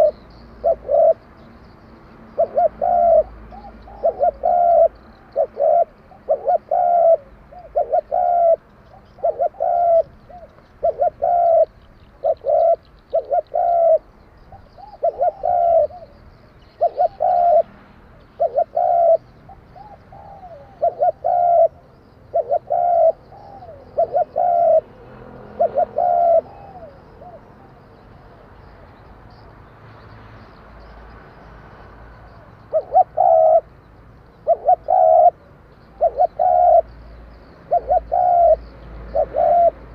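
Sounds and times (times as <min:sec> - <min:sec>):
dove cooing: 0:00.0 - 0:01.2, 0:02.3 - 0:28.3, 0:32.2 - 0:33.7, 0:34.3 - 0:37.0, 0:37.6 - 0:39.9.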